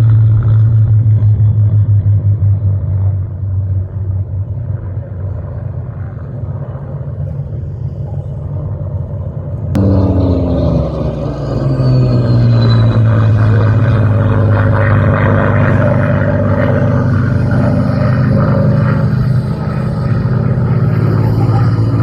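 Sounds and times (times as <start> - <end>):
aircraft engines droning: 0.0 - 22.0
aircraft passing with falling pitch: 0.0 - 22.0.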